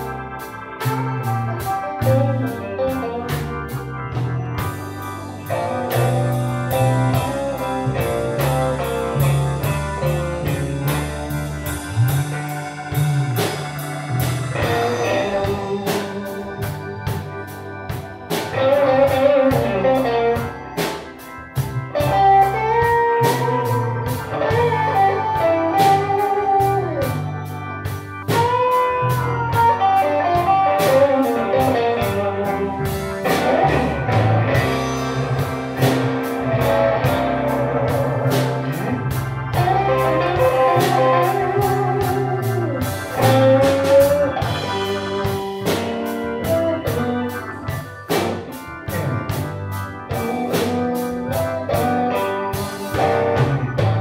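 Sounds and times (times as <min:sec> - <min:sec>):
blues band playing: 0:00.0 - 0:54.0
electric guitar bent notes: 0:00.0 - 0:54.0.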